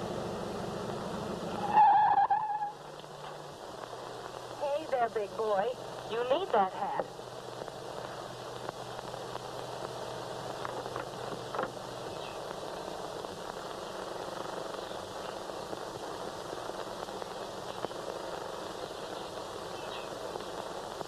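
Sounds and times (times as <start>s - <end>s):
car engine hum: 0.0s - 21.0s
film soundtrack hiss: 0.0s - 21.0s.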